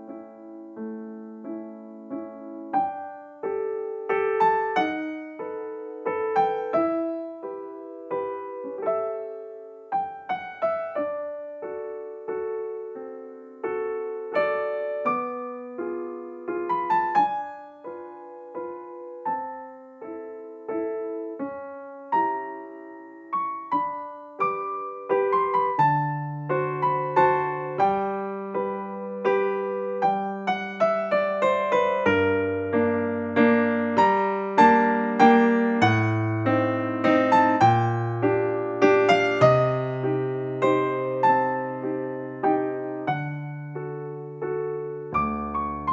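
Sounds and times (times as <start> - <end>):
gentle piano melody: 0.0 - 45.9.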